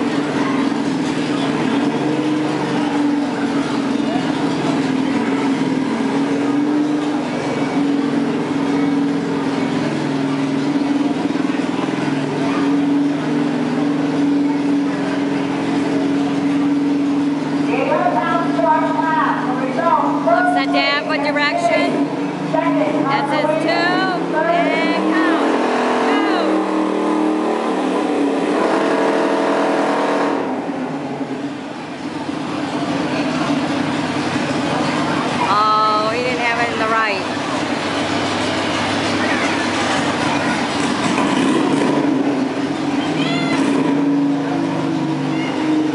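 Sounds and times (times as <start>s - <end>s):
riding lawn mower engine running: 0.0s - 45.9s.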